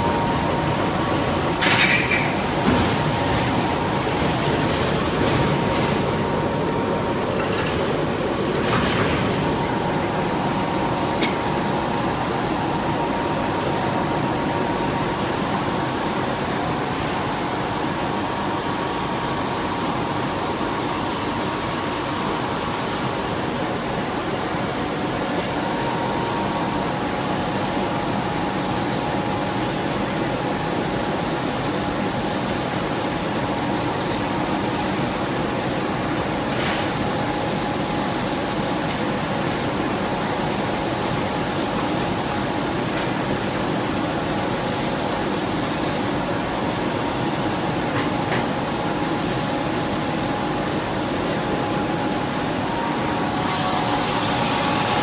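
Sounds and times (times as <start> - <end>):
laser cutting machine running: 0.0 - 55.0.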